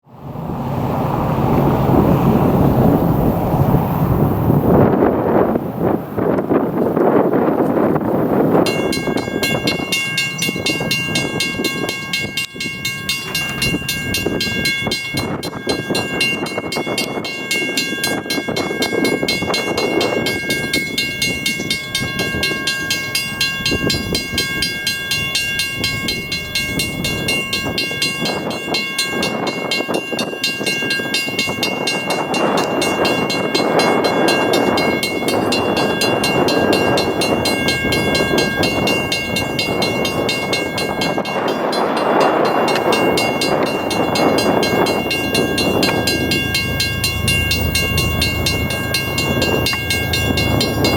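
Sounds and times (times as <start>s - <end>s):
freight train approaching: 0.0s - 50.9s
crossing bell ringing rapidly: 8.3s - 50.9s.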